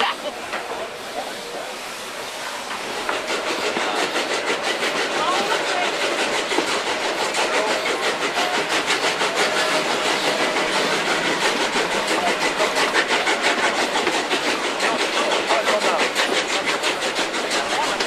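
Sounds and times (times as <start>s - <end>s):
steam locomotive exhaust chuffing: 0.0s - 18.0s.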